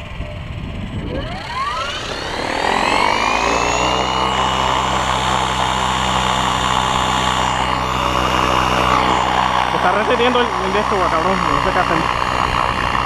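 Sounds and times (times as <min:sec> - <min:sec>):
electric motor whine: 0:00.0 - 0:13.0
low rotor drone: 0:00.0 - 0:13.0.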